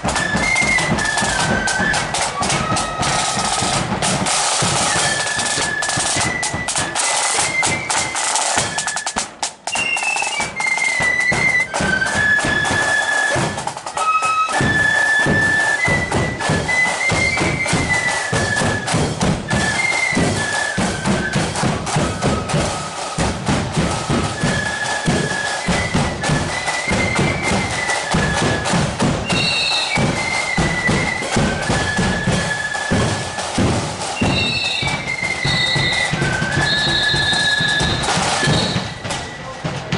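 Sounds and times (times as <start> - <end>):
flutes playing high melody: 0.0 - 39.8
snare and bass drums: 0.0 - 39.9.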